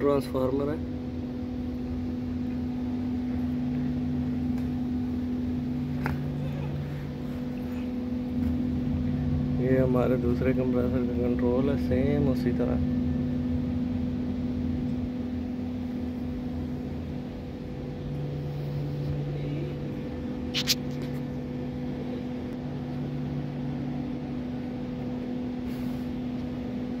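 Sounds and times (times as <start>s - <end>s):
chillers humming: 0.0s - 27.0s.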